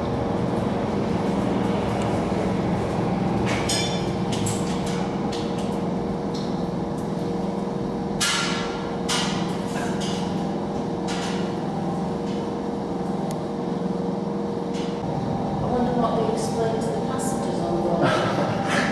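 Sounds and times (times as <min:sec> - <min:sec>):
steady mechanical hum: 0:00.0 - 0:18.9.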